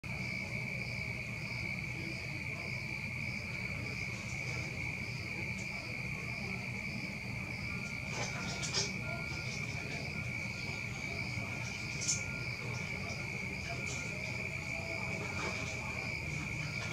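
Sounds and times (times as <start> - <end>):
insect chirping: 0.1 - 16.9
insects trilling: 0.1 - 16.9.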